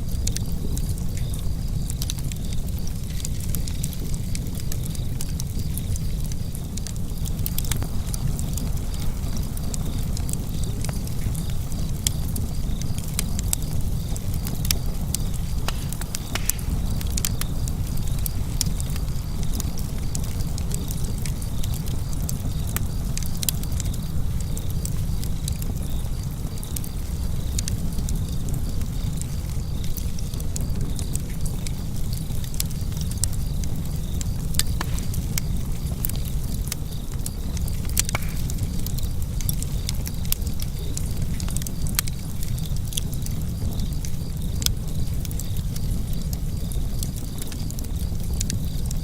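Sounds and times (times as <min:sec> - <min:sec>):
fire crackling and popping: 0:00.0 - 0:49.0
fire low rumble: 0:00.0 - 0:49.0.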